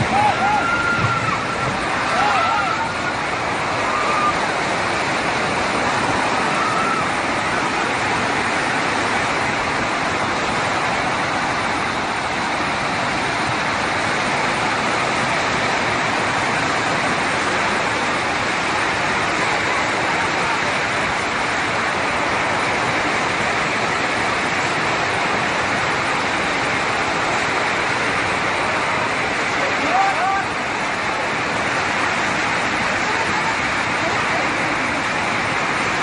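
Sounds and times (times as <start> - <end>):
flash flood torrent rushing: 0.0 - 36.0.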